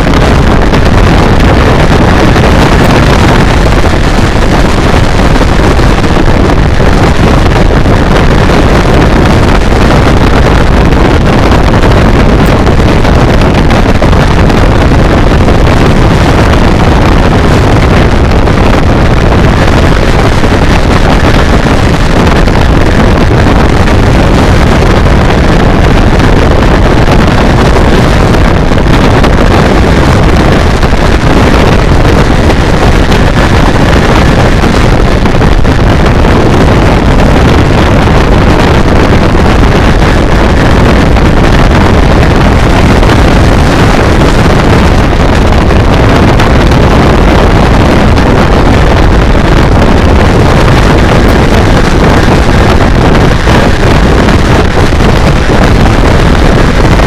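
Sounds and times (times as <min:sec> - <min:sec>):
wind roar on microphone: 0:00.0 - 0:57.0.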